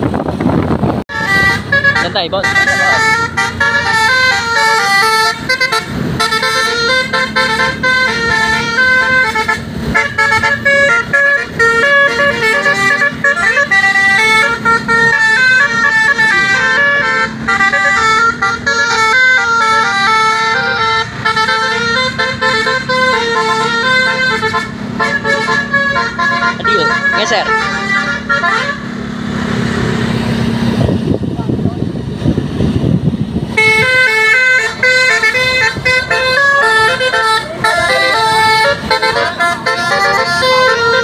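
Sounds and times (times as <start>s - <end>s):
multi-tone bus horn tune: 1.1s - 30.5s, 33.5s - 41.0s.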